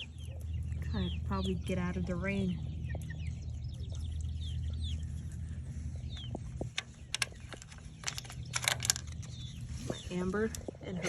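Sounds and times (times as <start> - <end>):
chicks peeping: 0.0 - 11.0
low hum: 0.0 - 11.0.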